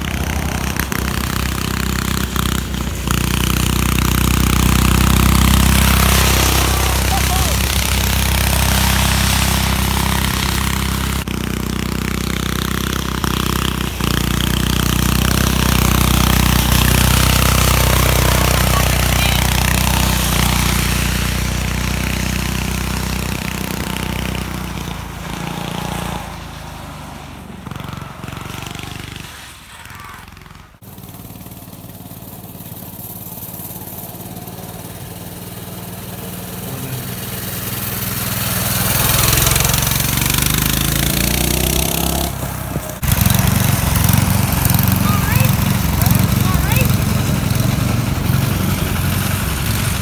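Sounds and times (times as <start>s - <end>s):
diesel tractor engine running: 0.0s - 29.1s, 30.3s - 50.0s.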